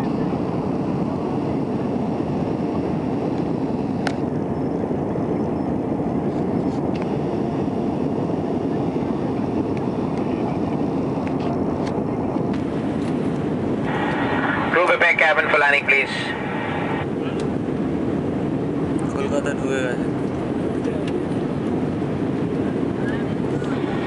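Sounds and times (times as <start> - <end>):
airliner cabin engine rush: 0.0 - 24.0.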